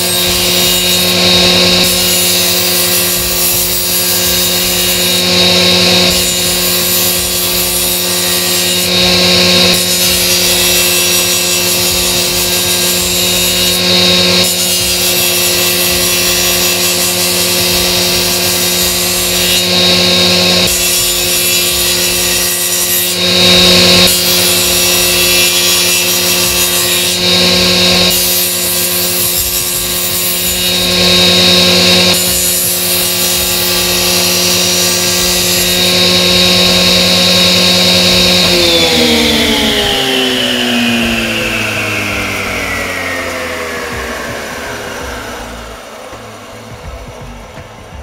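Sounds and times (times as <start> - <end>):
saw blade spinning down: 0.0 - 47.6
table saw cutting wood: 0.0 - 48.0.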